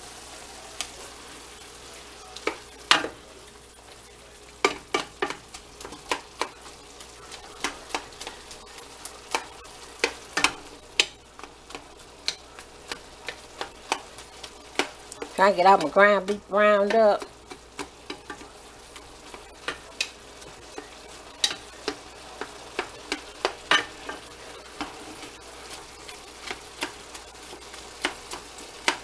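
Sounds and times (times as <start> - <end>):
meat sizzling in a skillet: 0.0 - 29.0
spatula scraping and tapping pan: 2.4 - 3.2, 4.6 - 29.0.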